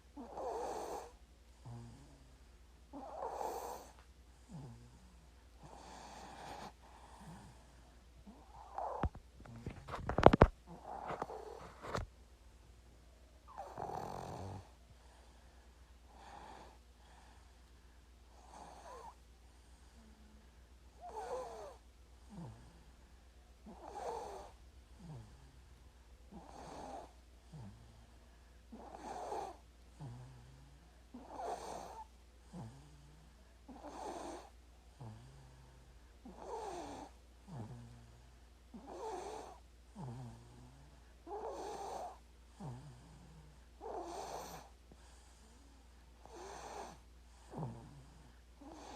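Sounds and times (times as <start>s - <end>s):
faint low hum: 0.0s - 48.9s
baby snoring softly: 0.1s - 12.1s, 13.4s - 17.7s, 18.3s - 23.0s, 23.6s - 25.7s, 26.3s - 48.9s.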